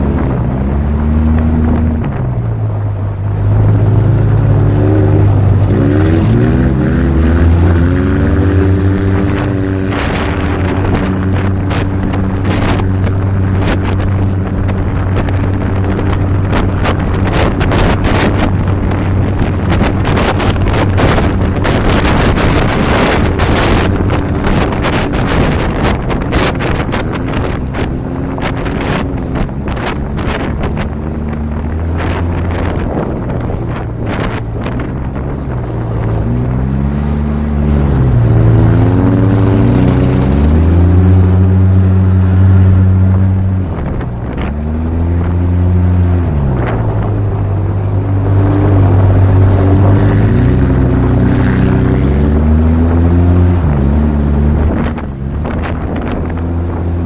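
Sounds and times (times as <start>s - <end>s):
off-road vehicle engine revving: 0.0s - 57.0s
wind buffeting microphone: 0.0s - 57.0s.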